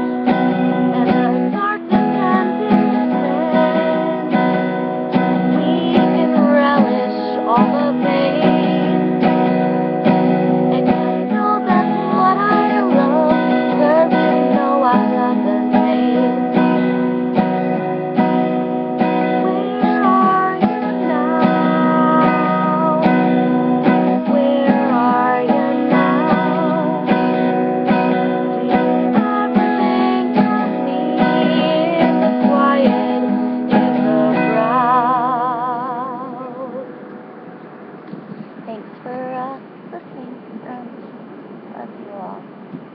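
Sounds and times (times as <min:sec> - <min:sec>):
woman singing: 0:00.0 - 0:37.1, 0:38.7 - 0:41.1
acoustic guitar strumming: 0:00.0 - 0:41.8.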